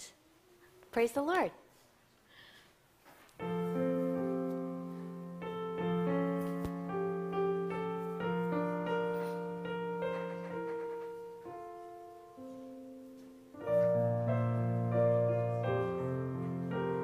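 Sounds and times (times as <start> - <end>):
slow keyboard music: 3.4 - 17.0.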